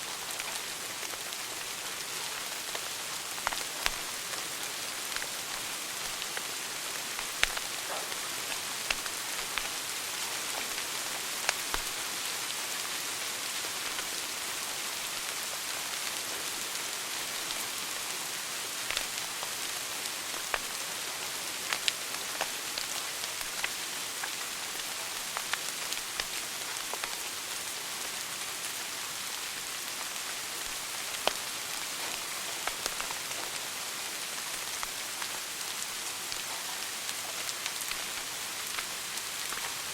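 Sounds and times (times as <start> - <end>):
wood fire crackling and popping: 0.1 - 12.5, 13.8 - 16.0, 16.7 - 39.9.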